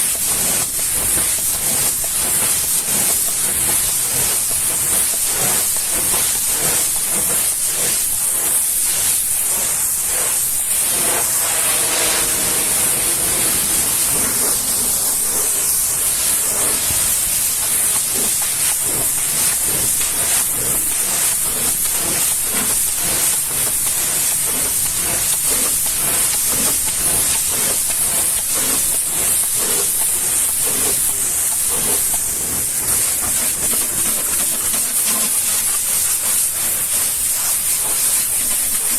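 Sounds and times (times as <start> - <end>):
pressure washer spraying: 0.0 - 38.9.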